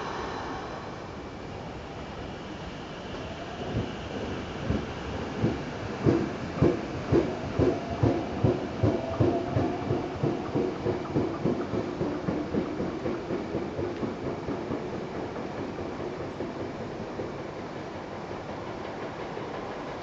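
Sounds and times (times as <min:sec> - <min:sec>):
train wheels clacking on rail joints: 0:03.7 - 0:20.0.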